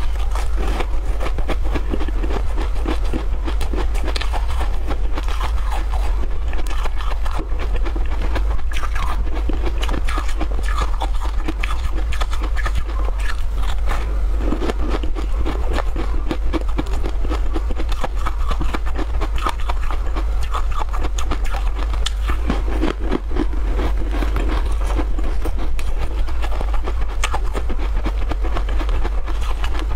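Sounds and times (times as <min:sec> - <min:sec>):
crunchy treat being chewed: 0:00.0 - 0:29.9
steady low hum: 0:00.0 - 0:29.9.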